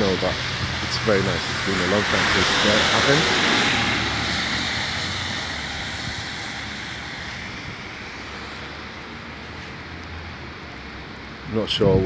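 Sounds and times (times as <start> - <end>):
vehicle passing on wet road: 0.0 - 11.8.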